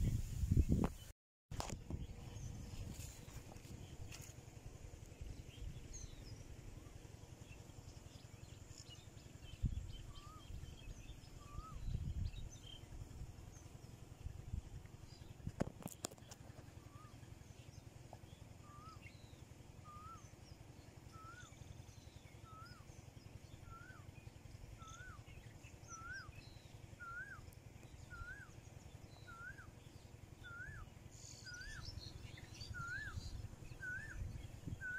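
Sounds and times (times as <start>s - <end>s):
low steady rumble: 0.0s - 34.9s
faint bird chirps: 5.2s - 13.7s, 14.4s - 34.9s.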